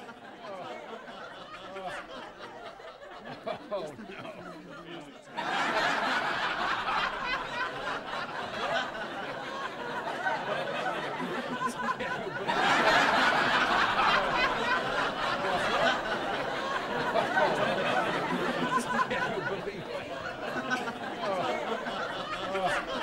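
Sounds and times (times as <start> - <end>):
laughter: 0.0 - 23.0.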